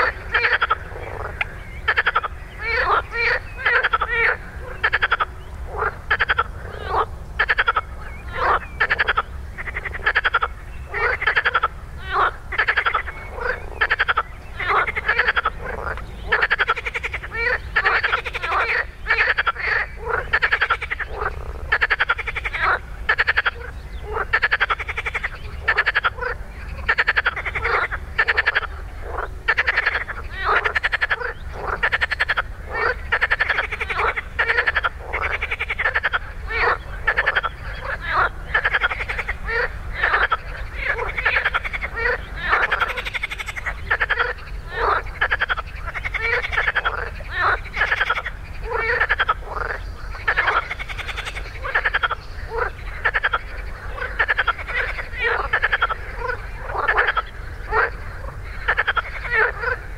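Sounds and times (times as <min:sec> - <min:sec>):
frogs croaking: 0:00.0 - 0:59.9.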